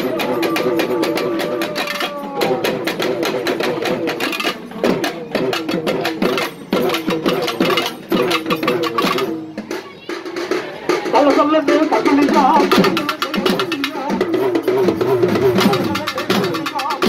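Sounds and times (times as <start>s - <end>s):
fast dense drumming: 0.0s - 17.0s.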